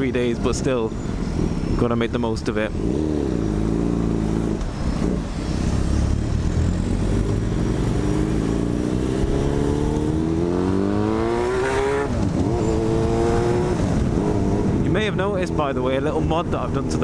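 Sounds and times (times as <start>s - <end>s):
motorcycle engine accelerating: 1.0s - 17.0s.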